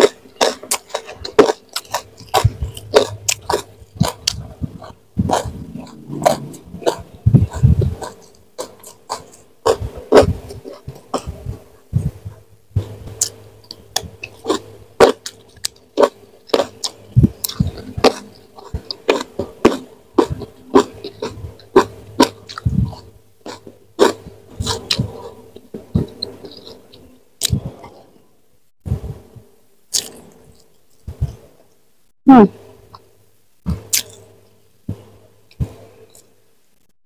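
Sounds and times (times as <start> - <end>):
person chewing food: 0.0 - 28.2, 29.9 - 31.6, 33.8 - 34.3.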